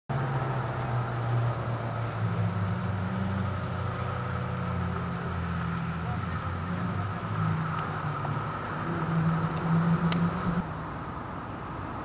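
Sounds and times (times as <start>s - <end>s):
vehicle engine idling: 0.1s - 10.6s.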